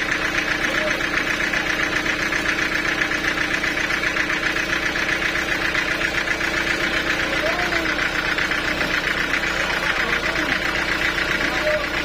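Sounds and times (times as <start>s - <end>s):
sawmill machinery humming and rattling: 0.0s - 12.0s.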